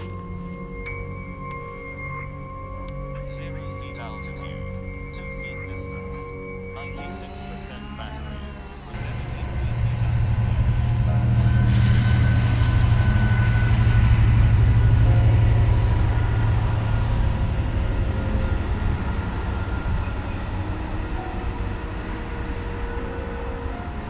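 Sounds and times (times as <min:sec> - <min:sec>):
freight train rumbling past: 0:00.0 - 0:01.3, 0:01.9 - 0:24.0.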